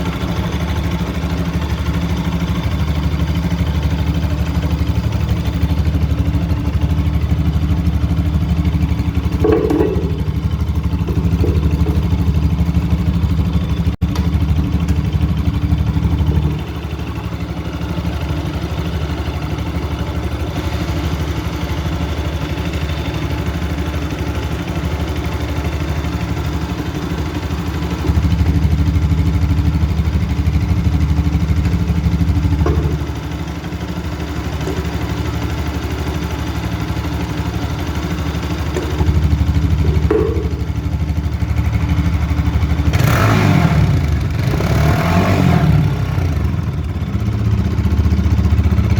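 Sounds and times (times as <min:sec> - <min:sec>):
motorcycle engine exhaust: 0:00.0 - 0:48.9.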